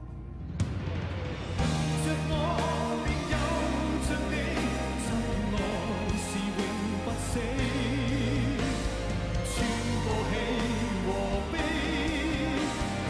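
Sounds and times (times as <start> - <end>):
live pop band playing: 1.6 - 13.0
man singing with vibrato: 1.8 - 13.0.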